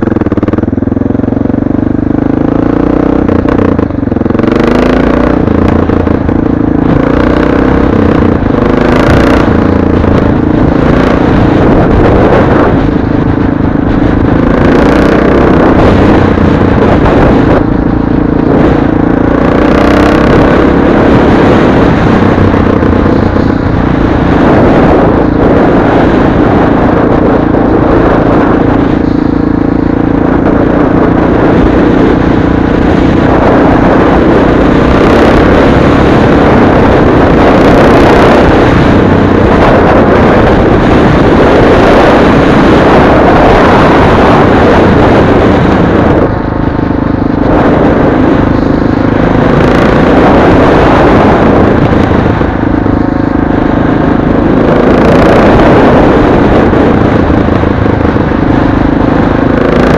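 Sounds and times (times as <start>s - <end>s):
motorcycle engine drone: 0.0s - 59.9s
wind rushing over microphone: 0.0s - 59.9s.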